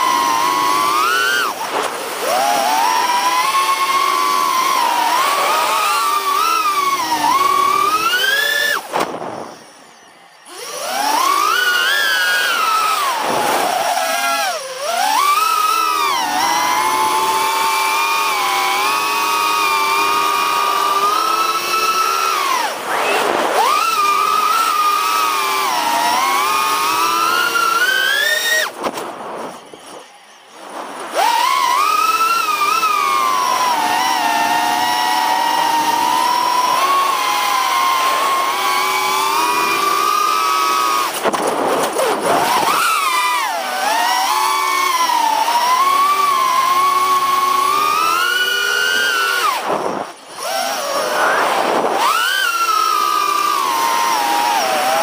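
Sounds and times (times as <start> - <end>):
drone motors and propellers whining: 0.0 - 55.0.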